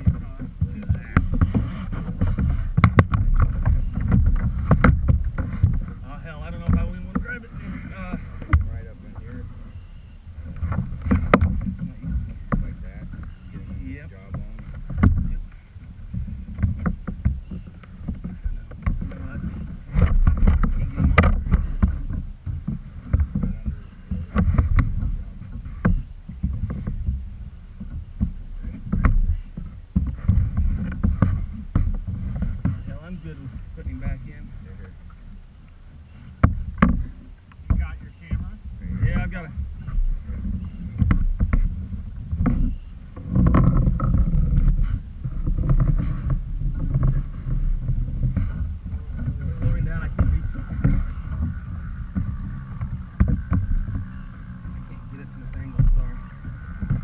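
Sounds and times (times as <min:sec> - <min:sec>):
knocks and clicks against kayak: 0:00.0 - 0:57.0
steady low rumble: 0:00.0 - 0:57.0.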